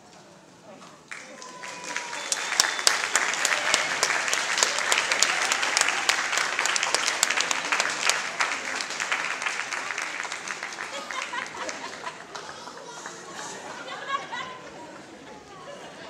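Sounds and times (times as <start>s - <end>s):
audience applauding: 1.1s - 15.5s.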